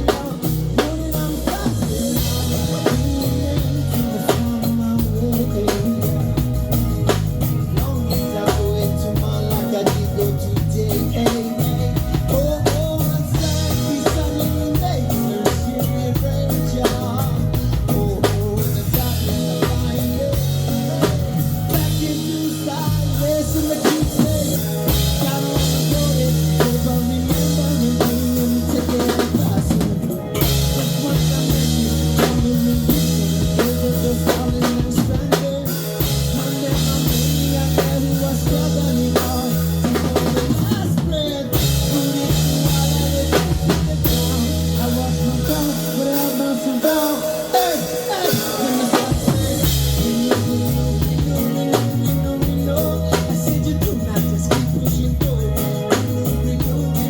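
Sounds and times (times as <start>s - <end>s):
bass drum beat: 0.0s - 57.0s
live band playing: 0.0s - 57.0s
sustained bass line: 0.0s - 57.0s.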